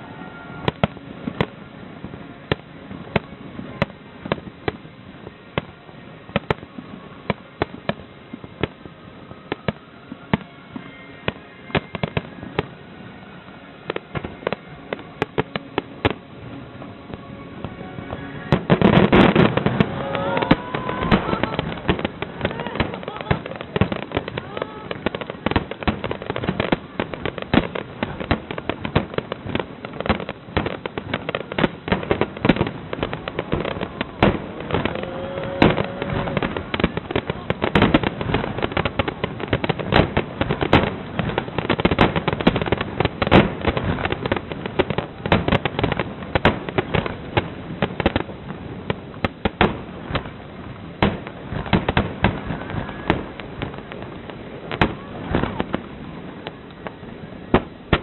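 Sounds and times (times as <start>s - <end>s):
fireworks bursts: 0.0s - 58.0s.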